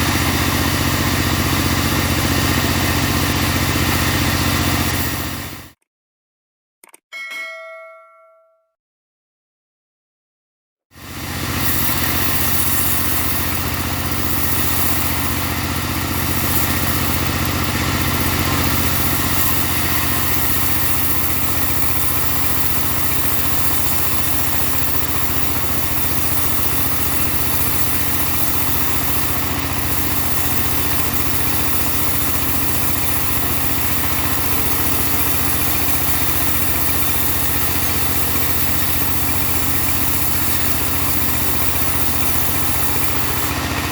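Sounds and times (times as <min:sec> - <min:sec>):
band sawmill engine drone: 0:00.0 - 0:05.8, 0:11.0 - 0:43.9.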